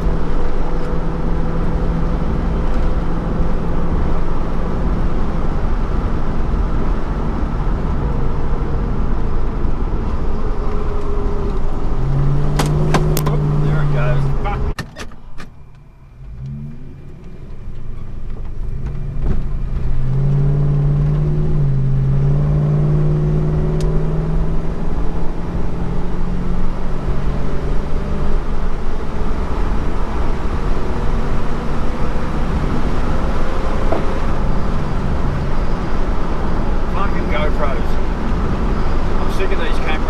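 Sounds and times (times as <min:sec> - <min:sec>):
car engine accelerating: 0:00.0 - 0:40.0
road and tyre noise: 0:00.0 - 0:40.0.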